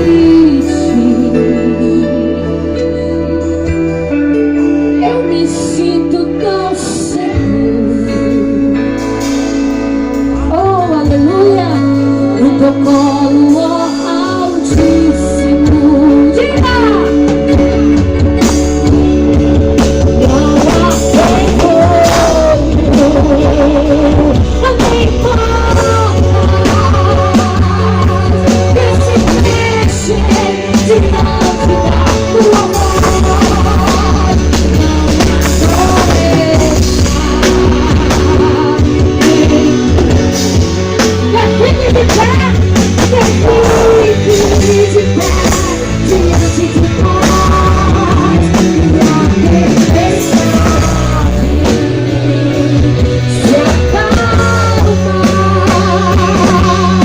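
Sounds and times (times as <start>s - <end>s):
worship band playing: 0.0s - 57.0s.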